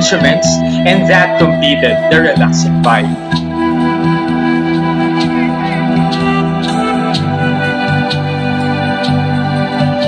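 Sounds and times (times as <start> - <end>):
pan flute playing: 0.0 - 10.0
recorded accompaniment with bass: 0.0 - 10.0.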